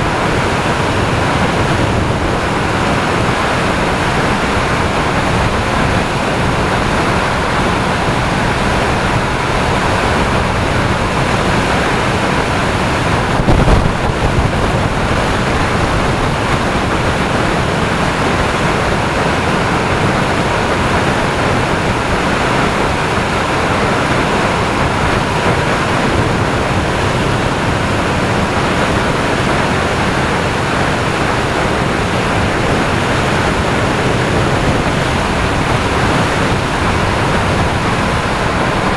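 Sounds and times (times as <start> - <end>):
motorcycle road noise: 0.0 - 38.9
wind noise on microphone: 0.0 - 38.9.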